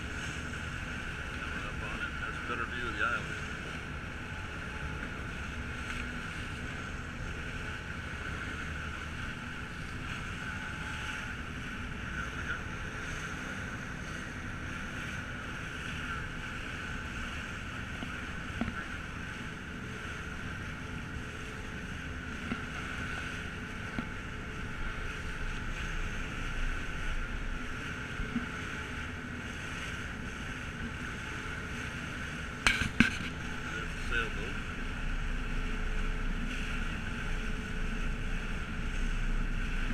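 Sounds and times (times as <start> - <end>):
ferry engine hum: 0.0 - 39.9
water noise: 0.0 - 39.9.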